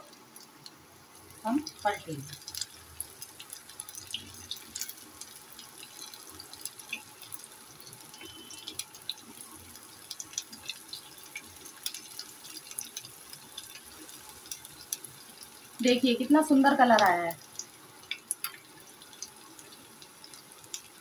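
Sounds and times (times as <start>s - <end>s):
oil popping and crackling: 0.0s - 21.0s
patties sizzling in hot oil: 0.0s - 21.0s.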